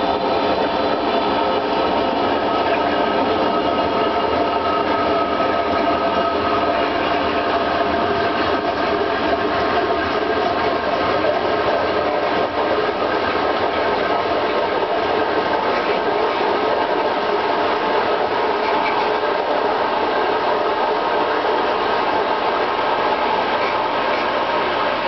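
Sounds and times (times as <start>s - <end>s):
dishwasher motor hum: 0.0s - 25.0s.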